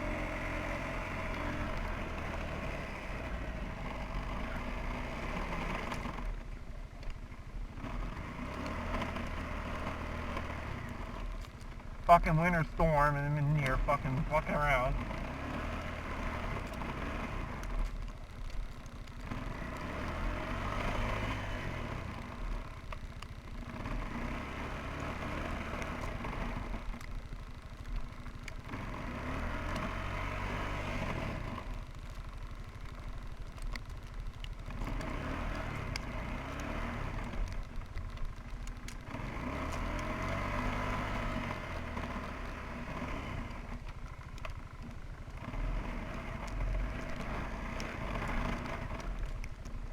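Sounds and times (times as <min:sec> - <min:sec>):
atv engine revving: 0:00.0 - 0:06.5, 0:07.6 - 0:49.9.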